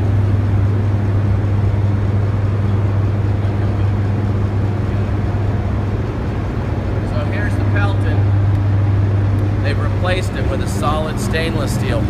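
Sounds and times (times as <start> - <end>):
generator low hum: 0.0 - 12.0.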